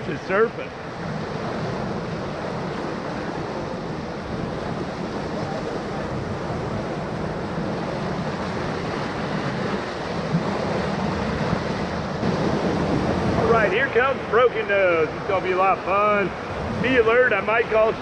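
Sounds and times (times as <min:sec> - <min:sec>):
whitewater rushing: 0:00.0 - 0:18.0.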